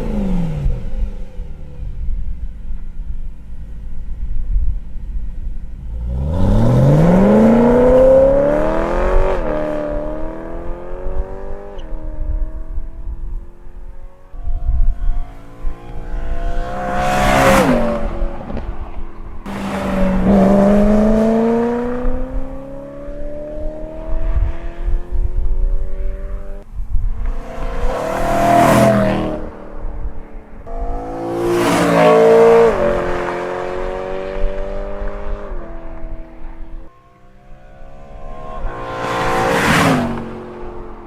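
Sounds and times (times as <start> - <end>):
car engine accelerating past: 5.9 - 41.0.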